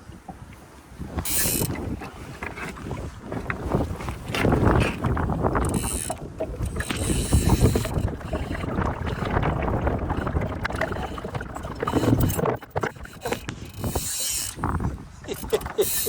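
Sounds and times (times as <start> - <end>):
water slapping boat hull: 0.0 - 16.0
wind rumbling on microphone: 0.0 - 16.0.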